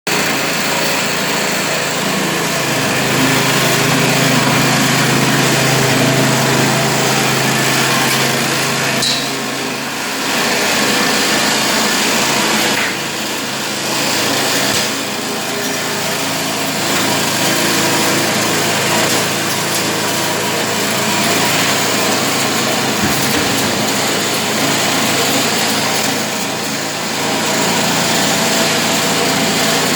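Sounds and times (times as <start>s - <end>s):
crushing and sieving machine running: 0.1s - 29.9s.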